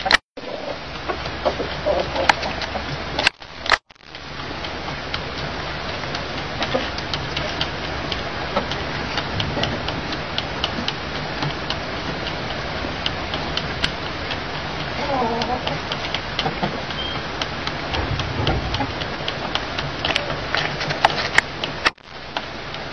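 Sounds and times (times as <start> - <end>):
rooster beak pecking wheel: 0.0 - 22.5
steady hiss: 0.0 - 22.9.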